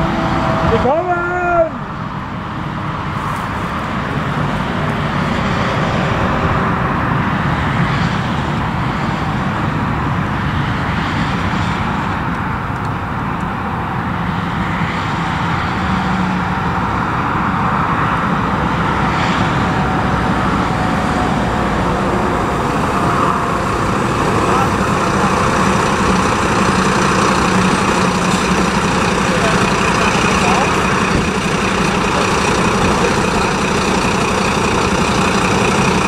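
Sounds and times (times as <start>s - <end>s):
fire engines driving past: 0.0s - 36.0s.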